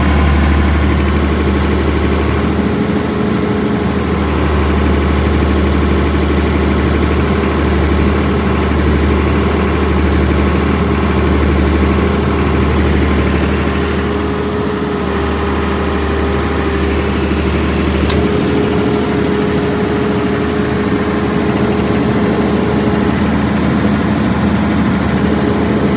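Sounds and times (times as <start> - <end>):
diesel generator running: 0.0 - 25.9.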